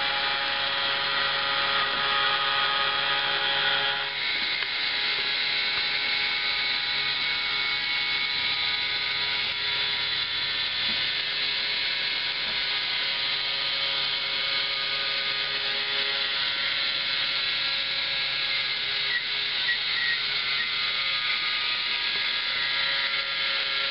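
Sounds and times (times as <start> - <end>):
small electric motor whirring: 0.0 - 23.9.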